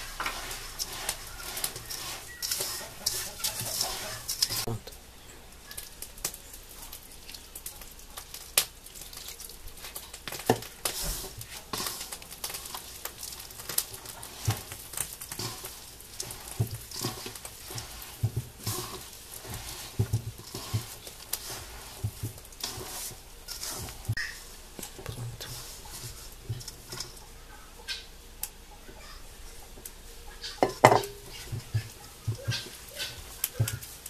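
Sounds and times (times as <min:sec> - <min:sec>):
hand kneading wet dough: 0:00.0 - 0:04.9, 0:05.8 - 0:27.4, 0:29.6 - 0:34.0.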